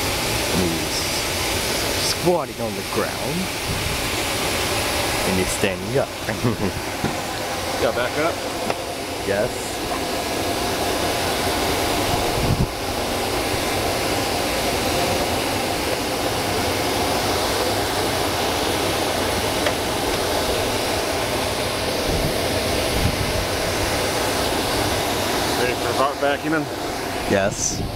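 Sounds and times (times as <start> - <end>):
vacuum rushing air with hum: 0.0 - 27.9.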